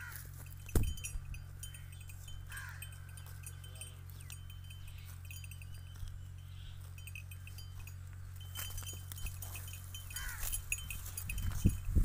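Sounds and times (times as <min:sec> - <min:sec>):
birds chirping: 0:00.0 - 0:11.2
steady low hum: 0:00.0 - 0:12.0.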